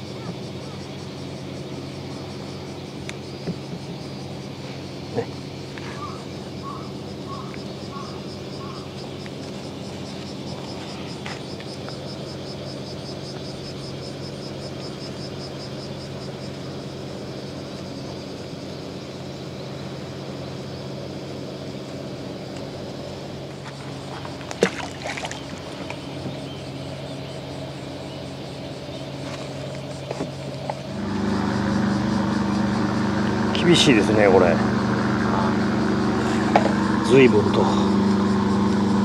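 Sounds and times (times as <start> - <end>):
boat engine humming: 0.0 - 39.0.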